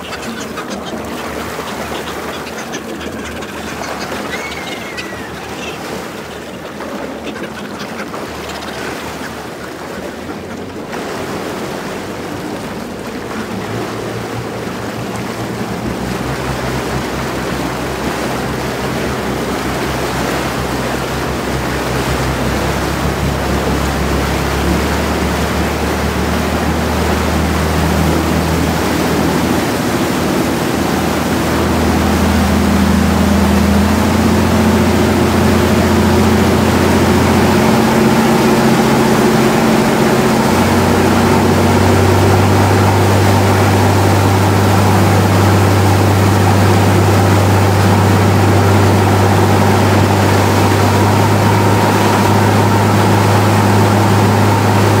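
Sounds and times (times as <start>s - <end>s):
boat engine running: 0.0s - 55.0s
water rushing against hull: 0.0s - 55.0s.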